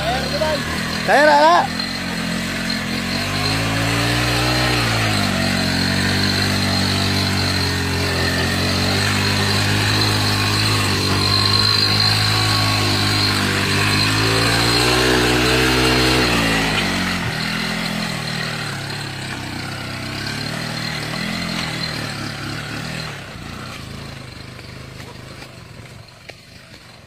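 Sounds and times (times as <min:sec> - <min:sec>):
small motorcycle engine pulling away: 0:00.0 - 0:27.0.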